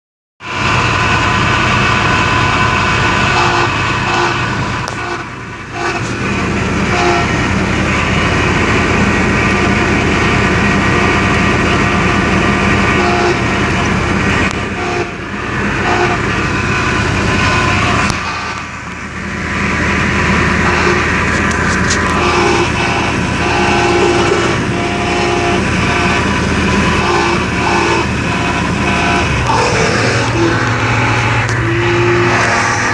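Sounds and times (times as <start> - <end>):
low rumble: 0.5 - 32.9
vehicle squealing: 2.3 - 32.9.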